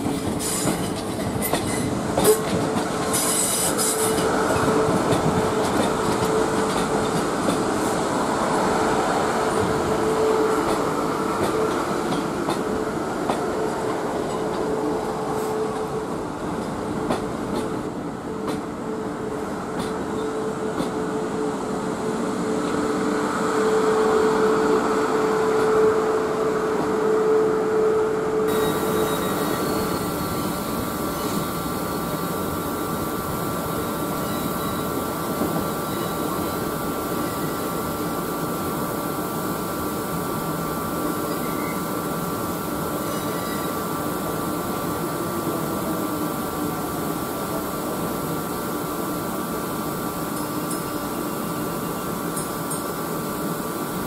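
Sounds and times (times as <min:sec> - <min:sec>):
electric train whine: 0:00.0 - 0:54.0
train equipment mechanical hum: 0:00.0 - 0:54.0.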